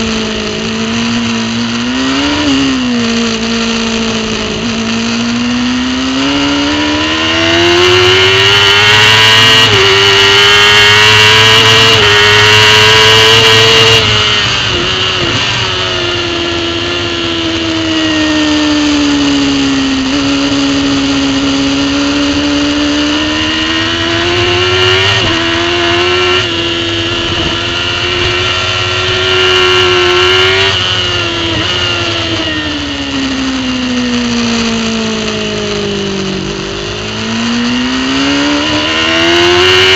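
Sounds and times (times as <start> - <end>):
superbike engine revving: 0.0 - 39.9.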